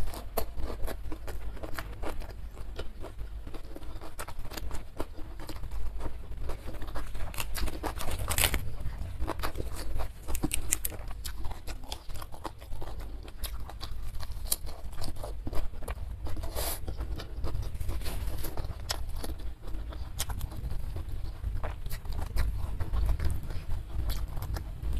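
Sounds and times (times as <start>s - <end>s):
chewing crunchy vegetables: 0.0s - 24.9s.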